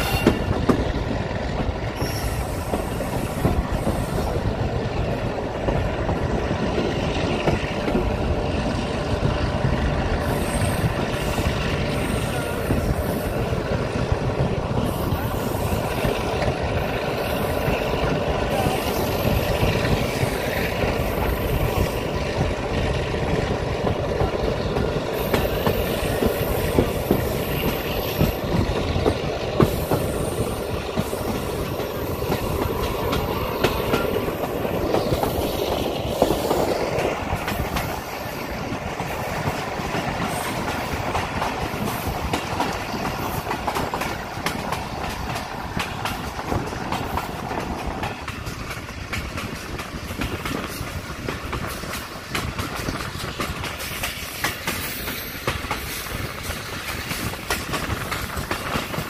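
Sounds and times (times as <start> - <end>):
train wheels clattering over rails: 0.0 - 59.0.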